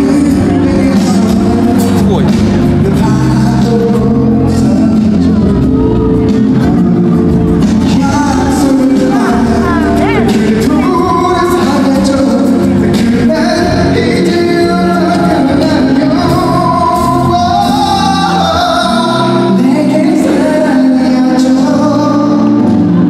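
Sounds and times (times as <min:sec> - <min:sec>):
amplified music accompaniment: 0:00.0 - 0:23.0
man singing into a microphone: 0:00.0 - 0:23.0.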